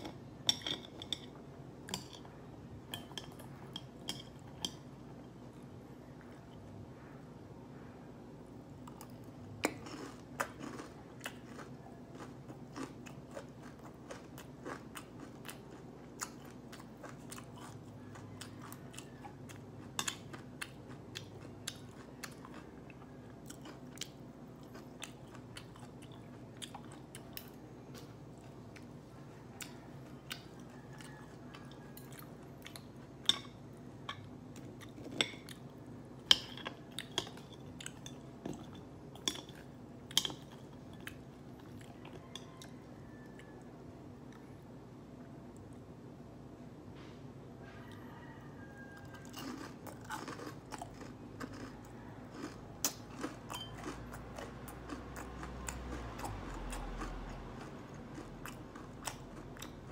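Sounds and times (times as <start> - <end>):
steady low hum: 0.0 - 59.9
chewing and crunching: 8.8 - 44.7, 47.6 - 59.9.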